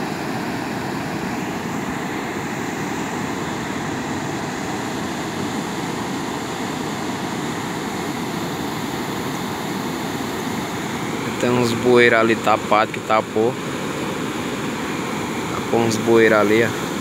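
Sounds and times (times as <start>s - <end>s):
floodwater rushing over concrete: 0.0s - 17.0s.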